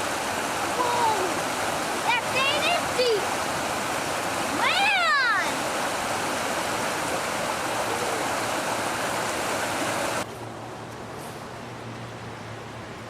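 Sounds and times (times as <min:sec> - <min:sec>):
floodwater rushing: 0:00.0 - 0:10.8.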